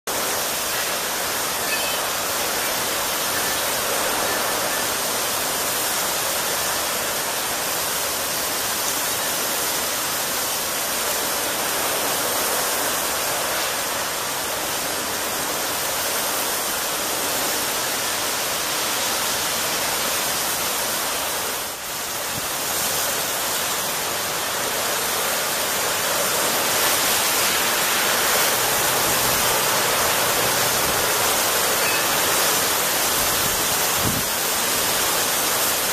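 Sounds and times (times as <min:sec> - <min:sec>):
heavy rain pouring: 0:00.1 - 0:35.9.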